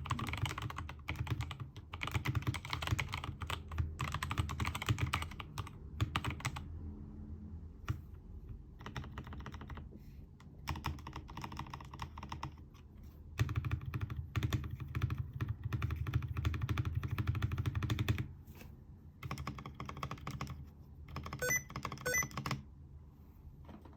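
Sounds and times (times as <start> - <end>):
mechanical keyboard typing: 0.0 - 6.7, 7.9 - 12.8, 13.4 - 18.3, 19.2 - 22.7.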